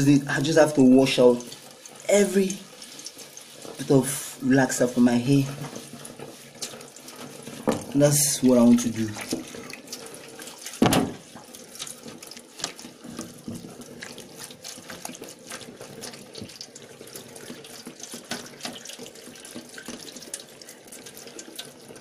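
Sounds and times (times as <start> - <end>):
small splashes and drips: 0.0 - 22.0
tap water running into sink: 0.0 - 22.0.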